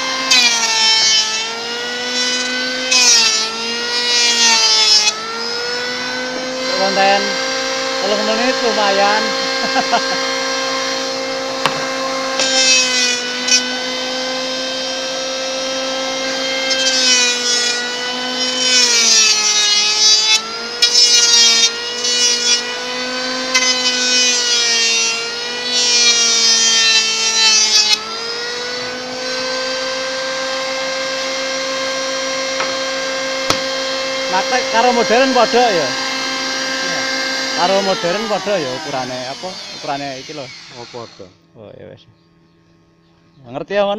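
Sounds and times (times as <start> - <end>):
electric planer shaving wood: 0.0 - 41.4.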